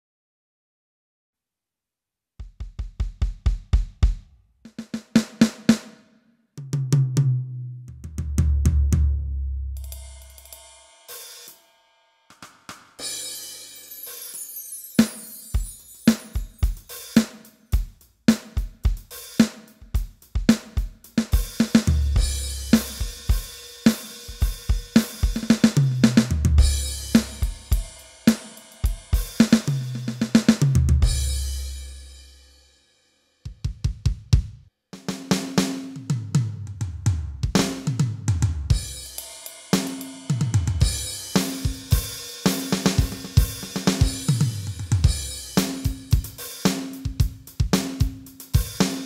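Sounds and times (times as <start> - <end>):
drum and cymbal hits: 2.4 - 6.0, 9.8 - 32.7, 33.5 - 49.0.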